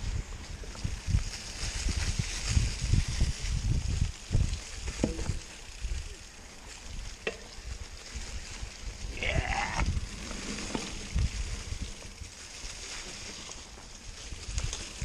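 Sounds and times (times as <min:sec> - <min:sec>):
bike tyres crackling over leaves: 0:00.0 - 0:15.0
low thumps from trail bumps: 0:00.0 - 0:15.0.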